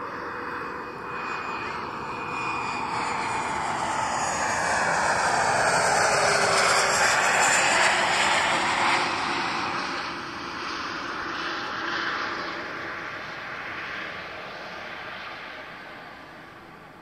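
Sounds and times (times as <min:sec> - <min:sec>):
aircraft passing by: 0:00.0 - 0:17.0.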